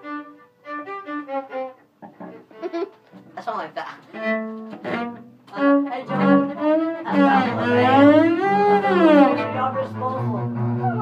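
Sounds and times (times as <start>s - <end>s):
bowed string instruments: 0.0s - 11.0s.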